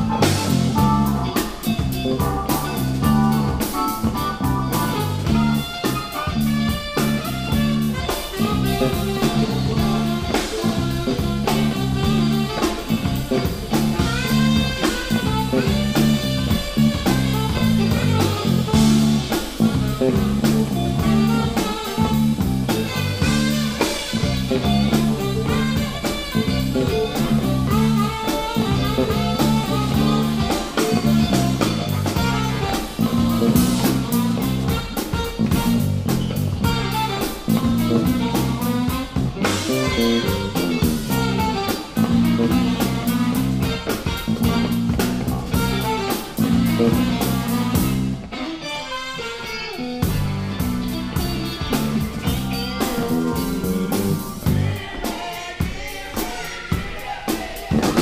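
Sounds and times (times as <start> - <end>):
electric bass line: 0.0 - 48.3, 50.0 - 55.0
electric guitar: 0.0 - 55.2
keyboards: 0.0 - 55.2
drum kit: 0.0 - 58.0
saxophone: 0.0 - 58.0.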